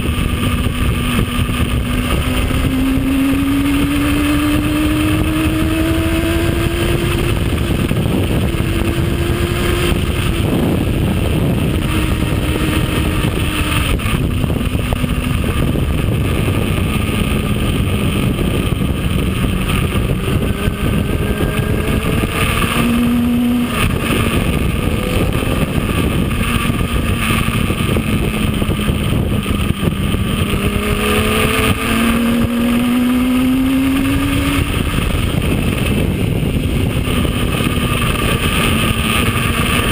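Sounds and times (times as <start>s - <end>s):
heavy wind rush: 0.0s - 39.9s
motorcycle engine at speed: 0.0s - 39.9s.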